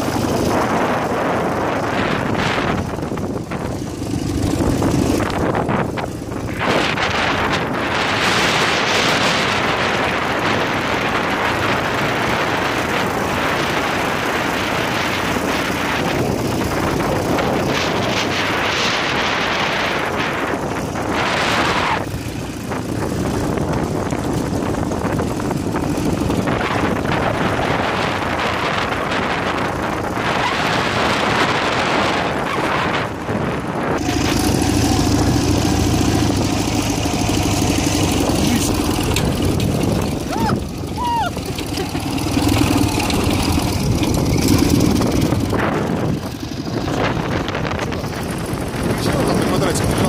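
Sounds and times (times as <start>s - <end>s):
motorcycle engine running: 0.0s - 50.0s
wind buffeting microphone: 0.0s - 50.0s.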